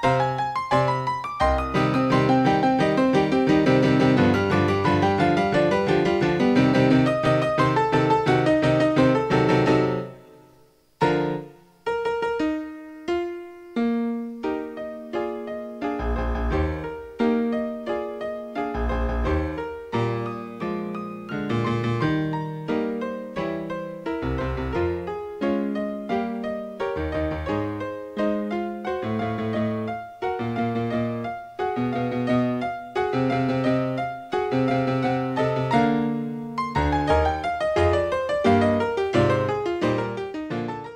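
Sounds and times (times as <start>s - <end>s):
solo piano music: 0.0s - 40.9s.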